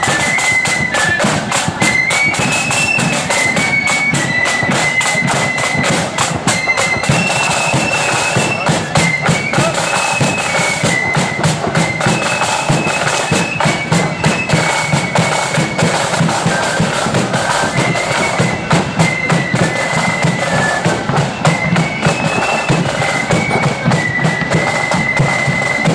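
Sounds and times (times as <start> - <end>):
flute melody: 0.0 - 25.9.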